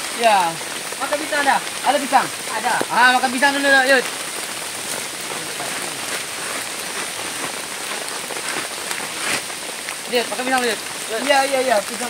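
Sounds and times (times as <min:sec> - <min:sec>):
heavy rain falling: 0:00.0 - 0:12.0
sharp water drips: 0:00.0 - 0:12.0.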